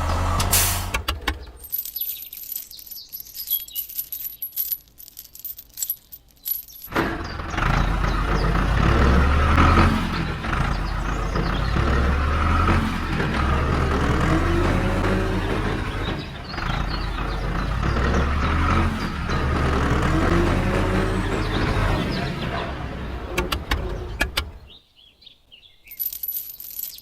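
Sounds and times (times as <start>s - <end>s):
vehicle engine humming: 0.0s - 24.7s.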